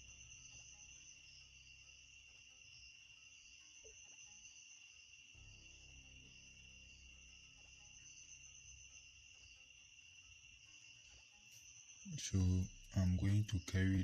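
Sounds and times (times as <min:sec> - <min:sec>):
faint high-pitched ringing: 0:00.0 - 0:14.0.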